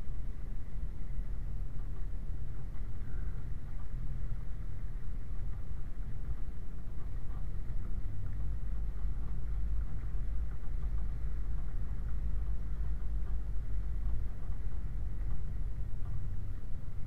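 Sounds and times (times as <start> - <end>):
muffled vehicle rumble: 0.0 - 17.0.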